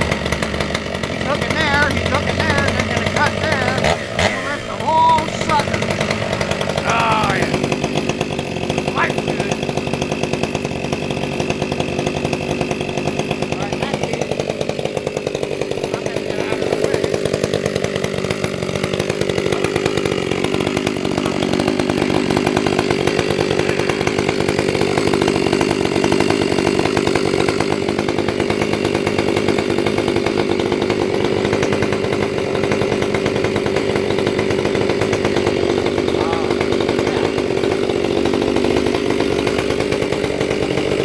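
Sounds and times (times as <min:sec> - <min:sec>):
chainsaw cutting tree trunk: 0:00.0 - 0:41.0.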